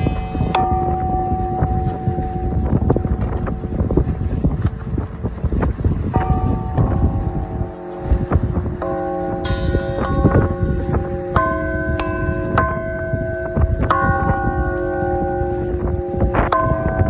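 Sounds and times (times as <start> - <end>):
large bell struck with mallet: 0.0 - 4.1, 6.1 - 17.0.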